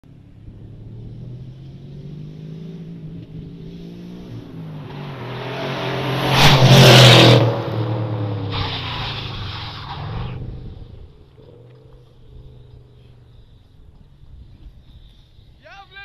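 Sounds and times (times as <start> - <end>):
car engine accelerating hard: 0.3 - 13.5.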